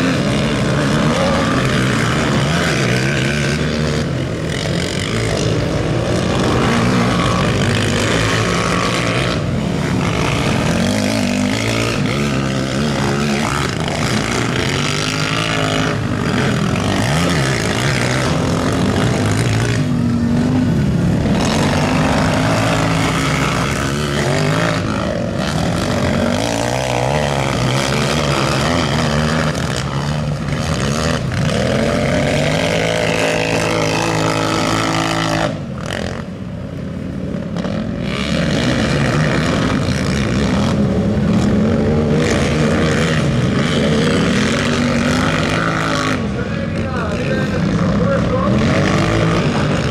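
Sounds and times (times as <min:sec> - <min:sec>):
quad engines revving: 0:00.0 - 0:49.9.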